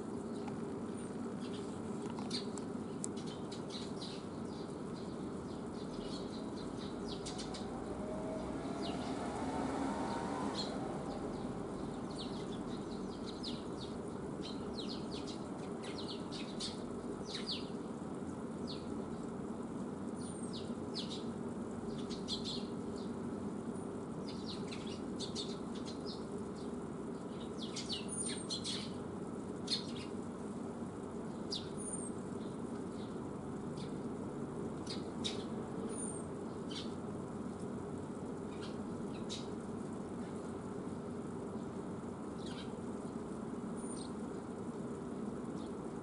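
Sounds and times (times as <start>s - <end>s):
low background rumble: 0.0s - 46.0s
small birds chirping: 0.0s - 46.0s.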